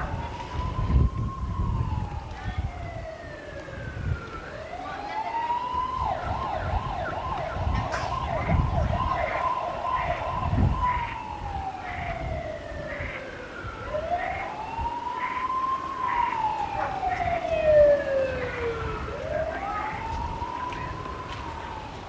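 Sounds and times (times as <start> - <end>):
emergency vehicle siren: 0.0 - 22.0.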